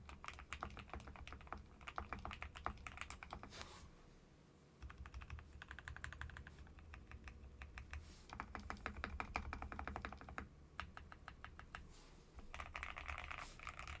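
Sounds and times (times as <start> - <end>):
mechanical keyboard typing: 0.0 - 3.5, 4.8 - 11.8, 12.4 - 14.0.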